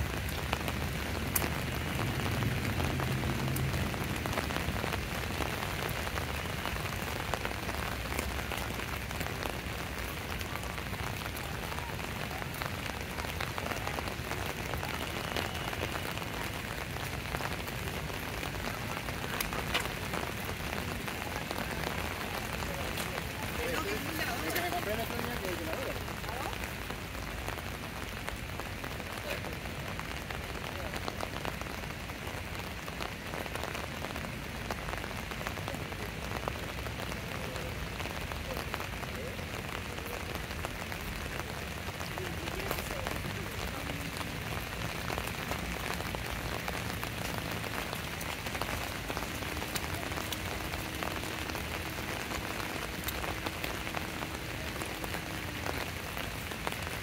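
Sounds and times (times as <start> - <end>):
rain falling: 0.0 - 57.0
raindrops ticking on hard surfaces: 0.0 - 57.0.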